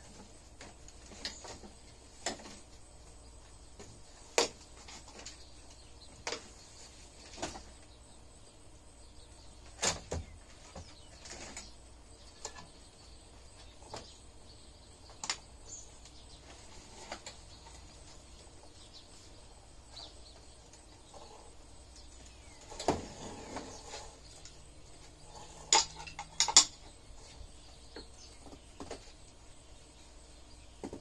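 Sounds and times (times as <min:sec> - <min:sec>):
faint steady background: 0:00.0 - 0:31.0.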